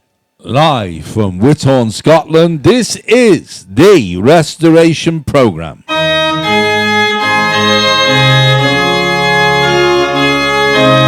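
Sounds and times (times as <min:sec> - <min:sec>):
organ chords: 0:00.4 - 0:11.0.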